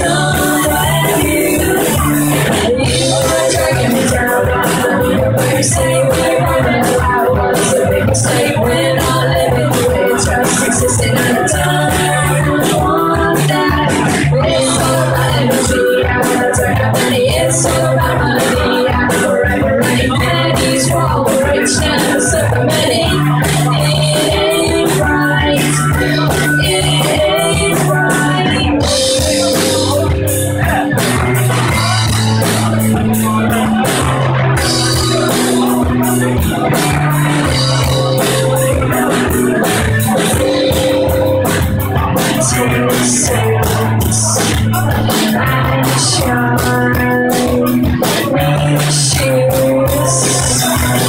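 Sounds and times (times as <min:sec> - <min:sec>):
women singing: 0:00.0 - 0:30.0, 0:34.5 - 0:51.0
bass guitar: 0:00.0 - 0:51.0
drum kit: 0:00.0 - 0:51.0
electric guitar: 0:00.0 - 0:51.0.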